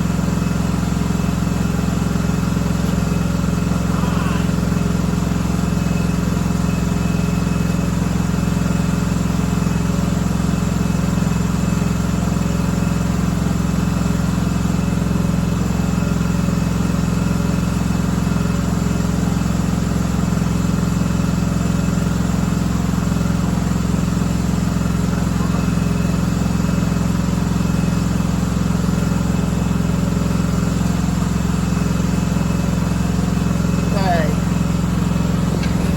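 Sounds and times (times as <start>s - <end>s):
lawn tractor engine running: 0.0s - 35.9s.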